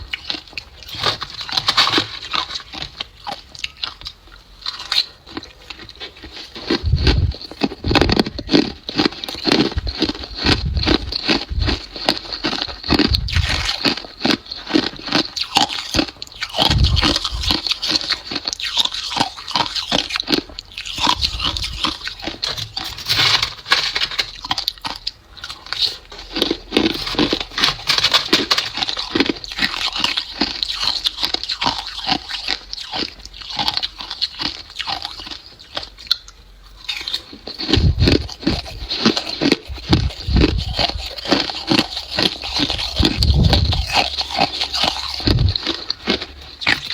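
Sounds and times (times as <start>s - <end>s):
ice being chewed crunching: 0.0s - 46.9s.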